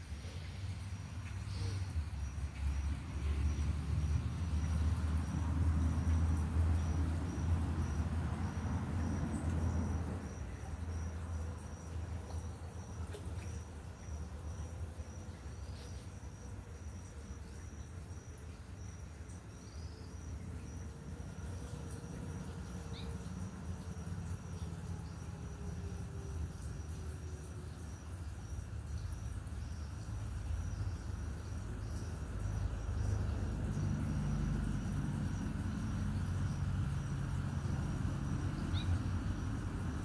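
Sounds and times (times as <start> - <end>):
high-pitched insect call pulsing: 0.0 - 40.0.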